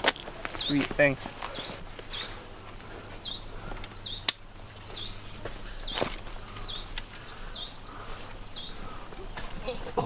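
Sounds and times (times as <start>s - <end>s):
dry brush rustling: 0.0s - 4.0s, 4.6s - 10.0s
footsteps on dirt trail: 0.0s - 10.0s
bird high chirp: 0.5s - 2.4s, 3.1s - 9.9s.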